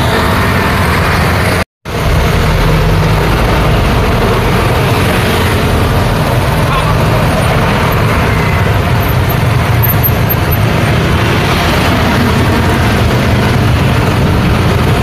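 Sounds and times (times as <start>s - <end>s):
bus passing: 0.0s - 15.0s
motorcycles passing: 0.0s - 15.0s
truck passing: 0.0s - 15.0s.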